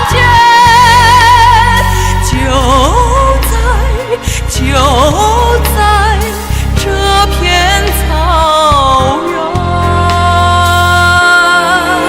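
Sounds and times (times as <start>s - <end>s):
steady low bass note: 0.0s - 11.2s.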